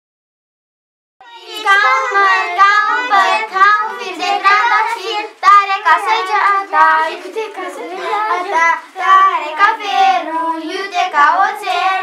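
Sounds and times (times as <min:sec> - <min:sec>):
children chanting together: 0:01.2 - 0:12.0.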